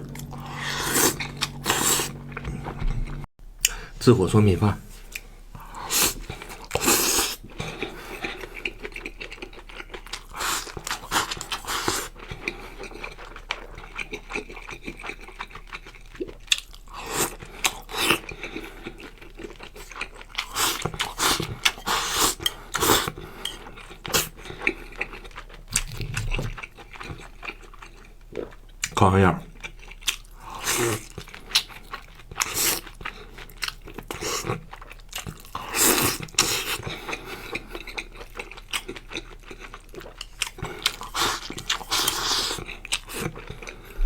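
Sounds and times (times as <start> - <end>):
chewing and crunching: 0.0 - 3.8, 5.0 - 44.0.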